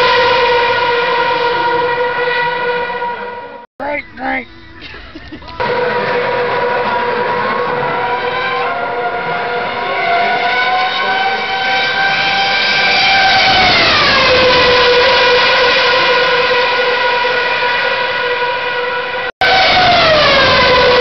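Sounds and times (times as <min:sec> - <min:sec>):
racing car engine high revs: 0:00.0 - 0:03.7, 0:05.6 - 0:21.0.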